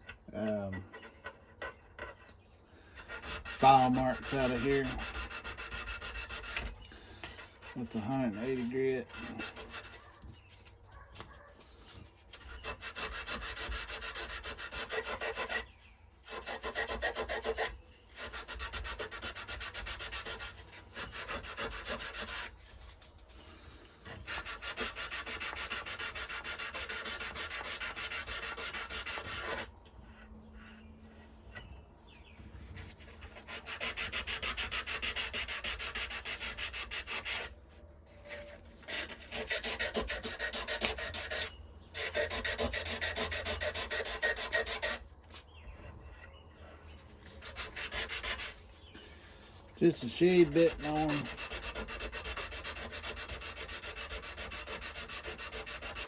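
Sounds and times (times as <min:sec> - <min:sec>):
sandpaper scraping a knife: 0:03.0 - 0:31.4, 0:32.1 - 0:45.4, 0:46.8 - 0:48.9, 0:49.5 - 0:56.0.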